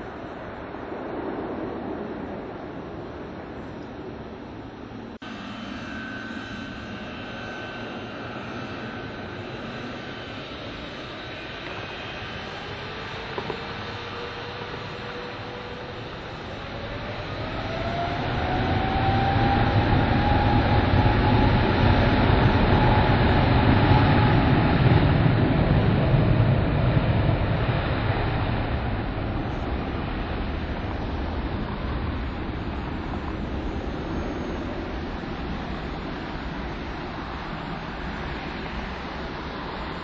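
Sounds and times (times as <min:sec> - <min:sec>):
jet engine deep roar: 0:00.0 - 0:40.0
jet engine whine: 0:00.0 - 0:40.0.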